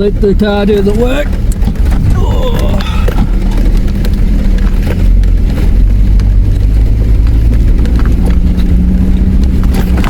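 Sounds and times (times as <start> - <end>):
car engine at low revs: 0.0 - 10.0
vehicle knocks and rattles: 0.0 - 10.0.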